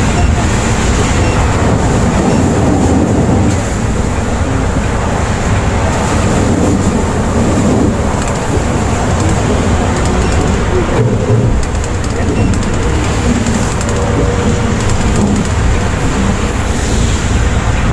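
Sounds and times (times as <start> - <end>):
diesel engine rumble: 0.0 - 17.9
road noise: 0.0 - 17.9.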